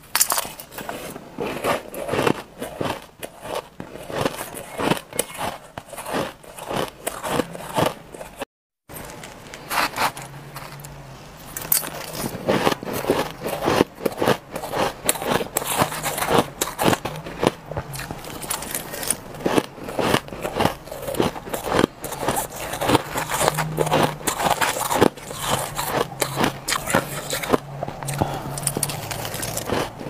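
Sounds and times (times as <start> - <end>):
shaved ice crunching being chewed: 0.0 - 30.0.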